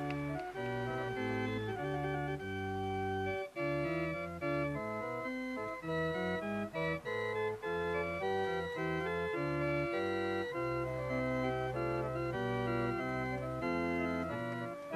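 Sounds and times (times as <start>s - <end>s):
organ chords: 0.0s - 14.9s.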